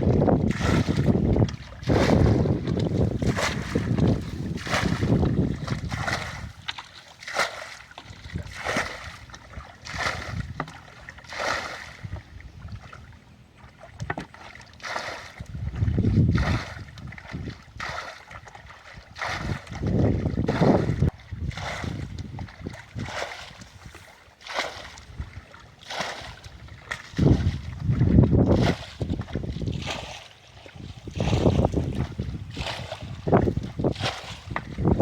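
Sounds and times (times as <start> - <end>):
paddle strokes swishing through water: 0.0 - 35.0.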